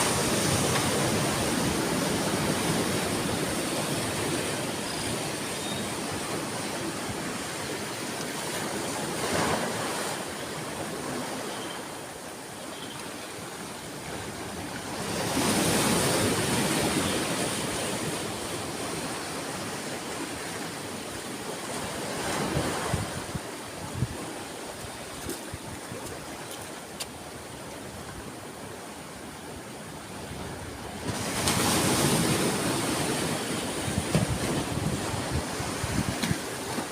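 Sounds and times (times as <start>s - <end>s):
sea waves breaking on shore: 0.0s - 36.9s.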